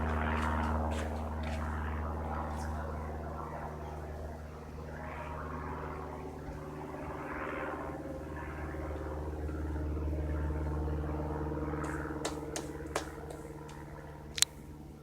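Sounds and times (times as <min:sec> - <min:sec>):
propeller engine droning: 0:00.0 - 0:15.0.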